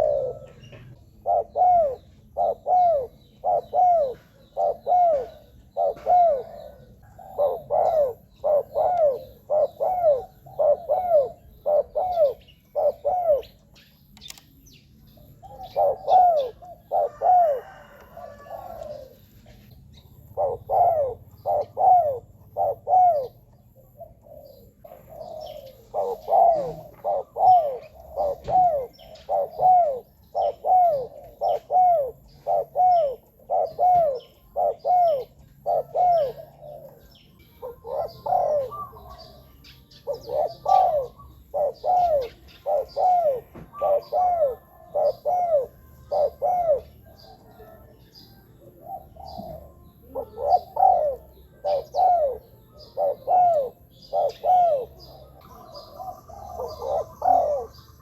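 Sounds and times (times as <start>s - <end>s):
dove cooing: 0.0s - 14.4s, 15.0s - 58.0s.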